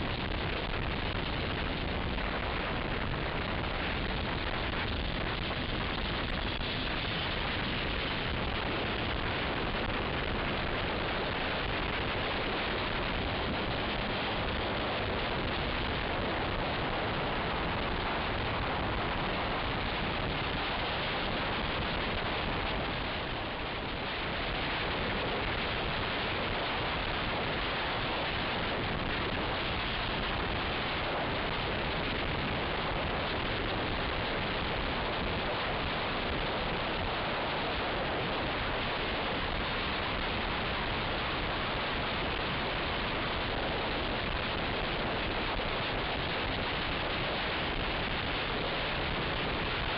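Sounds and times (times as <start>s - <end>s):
wind rushing on microphone: 0.0s - 49.9s.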